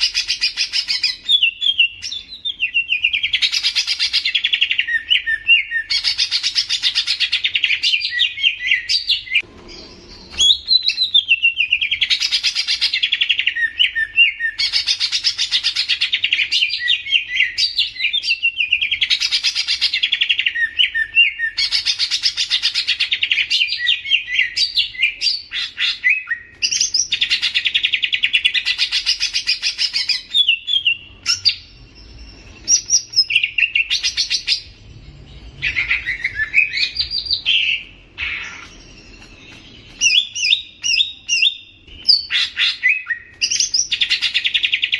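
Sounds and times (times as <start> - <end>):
songbird chattering song: 0.0 - 44.9.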